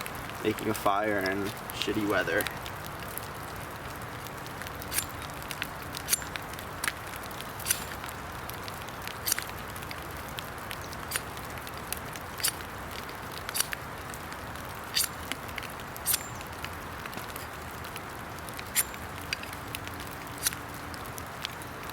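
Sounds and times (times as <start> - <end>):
raindrops ticking close by: 0.0 - 21.9
steady rain hiss: 0.0 - 21.9.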